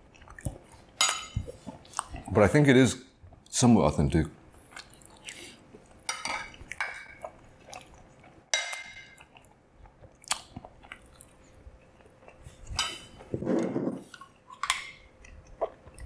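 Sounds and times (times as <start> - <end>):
person chewing food: 0.0 - 2.3, 4.5 - 16.0.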